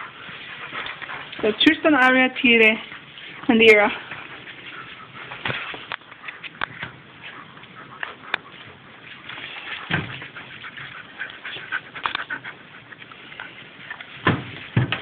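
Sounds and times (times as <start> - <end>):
dogs rustling and clicking: 0.0 - 15.0.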